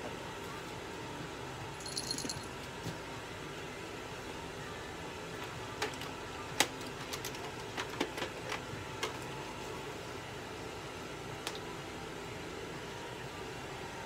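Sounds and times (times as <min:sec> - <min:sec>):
equipment hum: 0:00.0 - 0:14.0.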